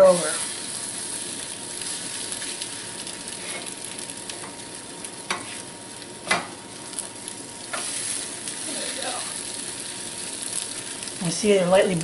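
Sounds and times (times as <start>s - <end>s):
batter sizzling in a frying pan: 0.0s - 12.0s.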